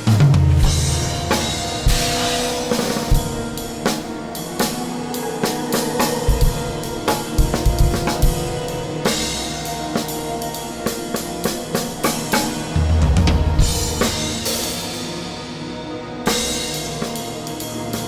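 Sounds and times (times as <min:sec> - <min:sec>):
drum kit playing: 0:00.0 - 0:15.4.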